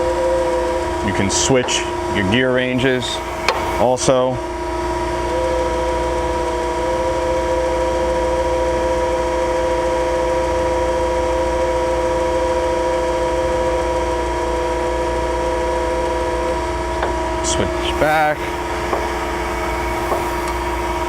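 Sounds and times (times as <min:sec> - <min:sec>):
grinding machine hum and whine: 0:00.0 - 0:21.0
work head spinning whine: 0:00.0 - 0:21.0.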